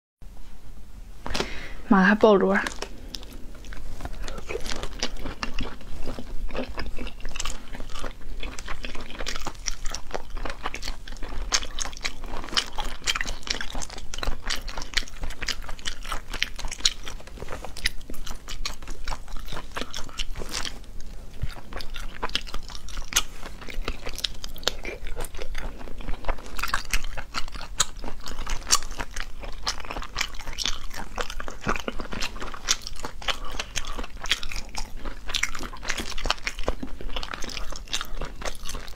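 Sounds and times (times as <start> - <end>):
wet crunching while eating: 2.6 - 38.9.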